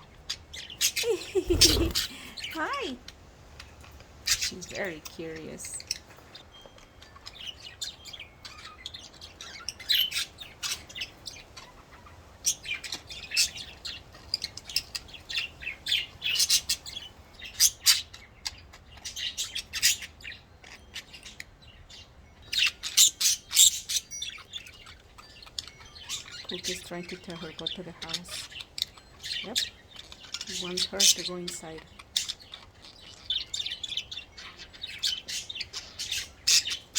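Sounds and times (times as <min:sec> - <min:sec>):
budgerigars chirping: 0:00.0 - 0:36.9.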